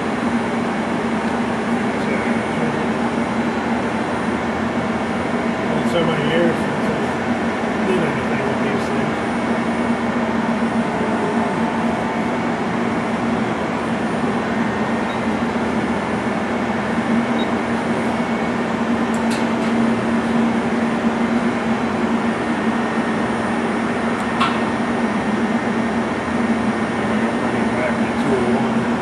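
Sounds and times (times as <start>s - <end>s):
lathe mechanical hum: 0.0s - 29.0s.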